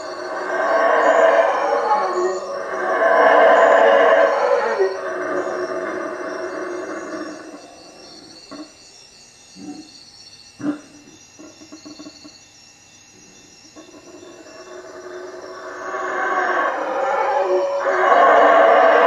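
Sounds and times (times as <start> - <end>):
howler monkeys calling: 0.0 - 12.5, 13.3 - 19.0
insects chirping: 0.0 - 19.0.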